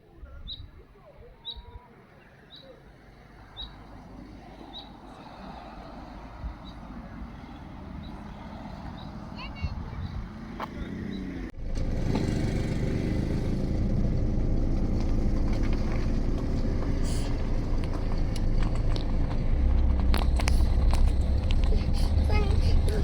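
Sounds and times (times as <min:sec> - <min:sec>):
motor vehicle engine rumble: 0:00.0 - 0:23.0
road noise: 0:00.0 - 0:23.0.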